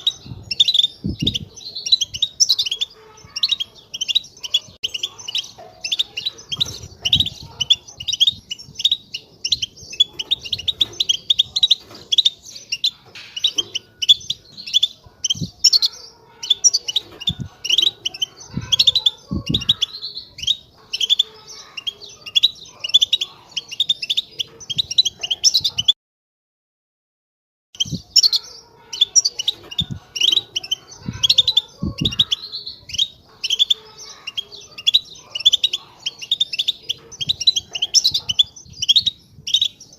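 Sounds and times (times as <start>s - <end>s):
finch twittering song: 0.0s - 26.0s, 27.8s - 39.9s.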